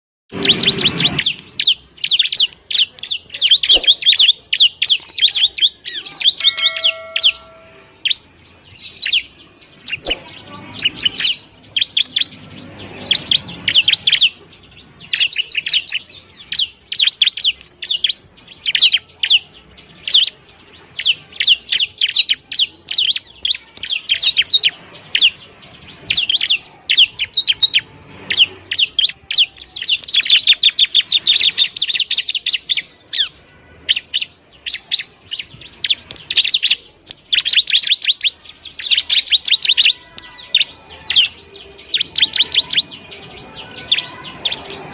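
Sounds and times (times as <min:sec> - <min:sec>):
bird high sharp chirps: 0:00.3 - 0:44.9.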